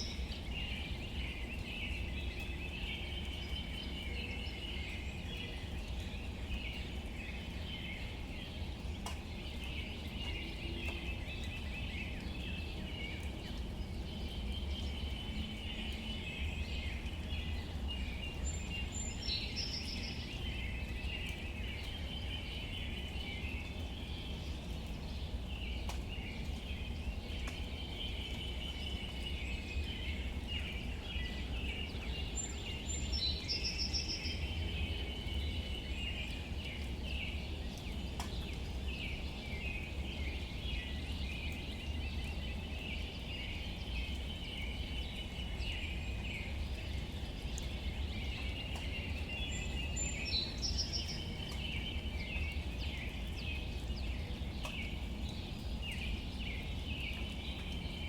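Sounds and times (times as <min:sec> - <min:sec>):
light rain on leaves: 0:00.0 - 0:58.0.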